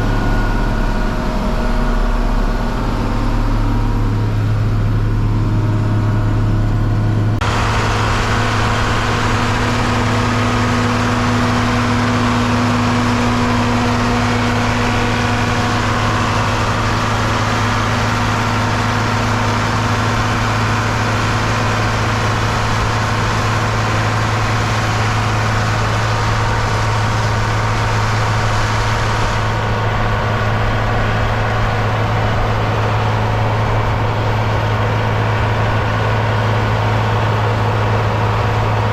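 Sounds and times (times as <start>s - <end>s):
loud rushing mechanical noise: 0.0s - 38.9s
tractor diesel engine running: 0.0s - 38.9s.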